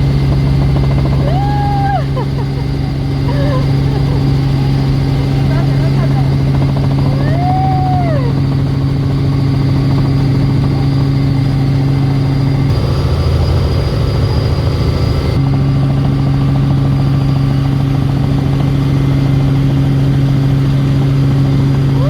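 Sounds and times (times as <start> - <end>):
helicopter engine drone: 0.0 - 22.0.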